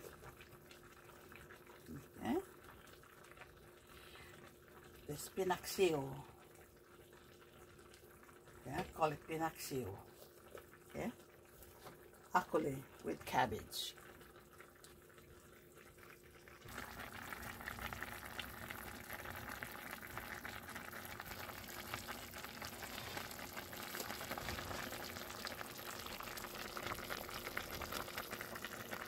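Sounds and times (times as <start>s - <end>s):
pot simmering with crackling bubbles: 0.0s - 29.0s.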